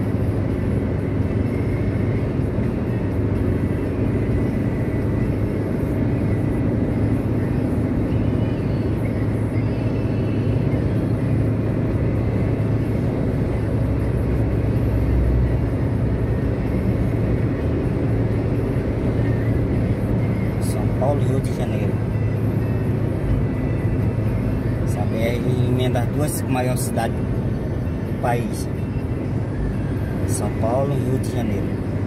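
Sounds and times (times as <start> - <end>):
car interior road and engine drone: 0.0 - 32.0.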